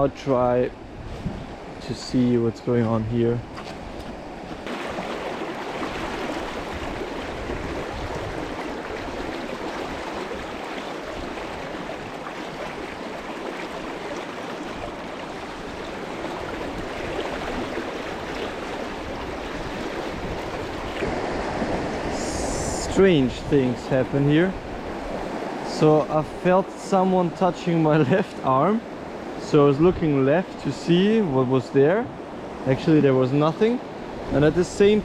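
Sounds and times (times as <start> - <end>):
river flowing: 0.0 - 35.0.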